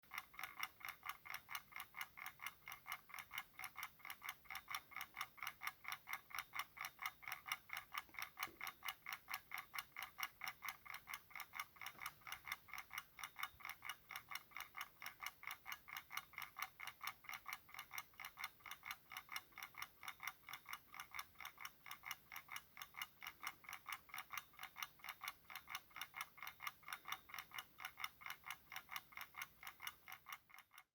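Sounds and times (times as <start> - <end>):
clock timer ticking: 0.0 - 30.9.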